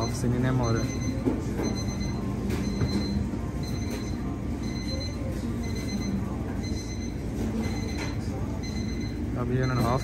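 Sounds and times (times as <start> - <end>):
low rumble of kitchen equipment: 0.0 - 10.0.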